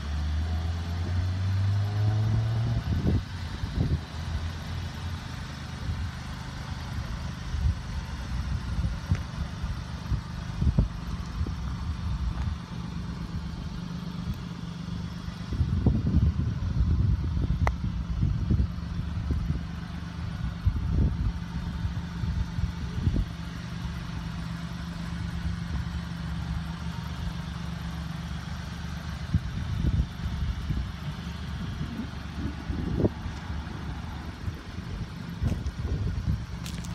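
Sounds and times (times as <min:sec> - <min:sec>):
low rumbles: 0:00.0 - 0:36.9
small engine idling: 0:00.0 - 0:36.9.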